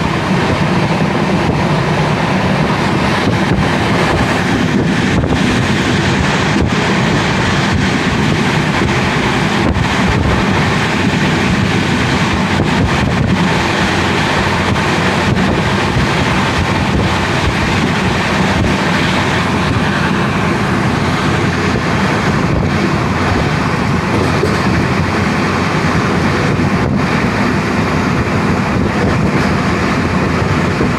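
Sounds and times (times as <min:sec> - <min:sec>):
train wheels rumbling on rails: 0:00.0 - 0:30.9
wind on microphone: 0:00.0 - 0:30.9.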